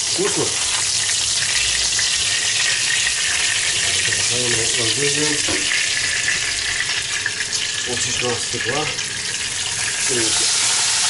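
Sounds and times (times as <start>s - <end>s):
noodles sizzling in butter: 0.0s - 11.0s.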